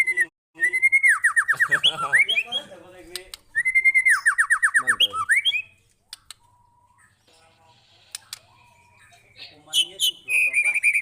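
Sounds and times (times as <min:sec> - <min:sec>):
songbird whistling song: 0:00.0 - 0:11.0.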